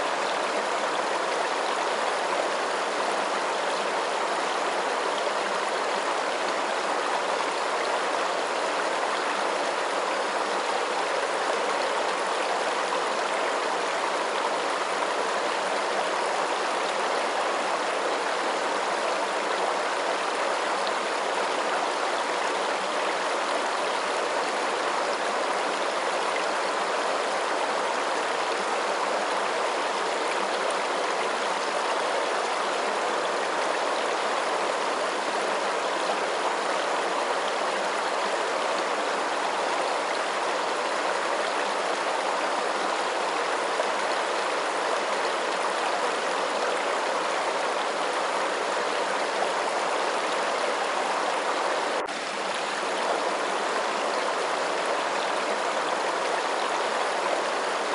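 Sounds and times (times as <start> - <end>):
flowing water rushing: 0.0 - 57.9.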